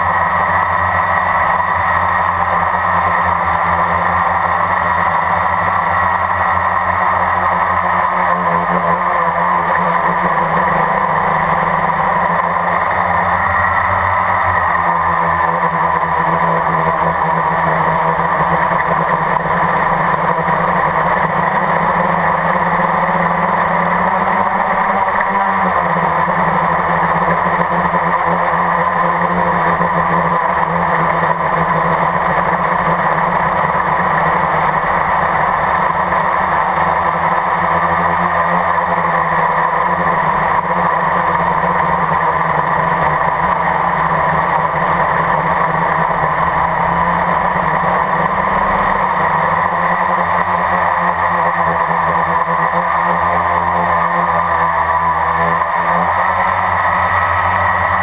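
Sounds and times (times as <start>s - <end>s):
quadcopter motors buzzing: 0.0s - 58.0s.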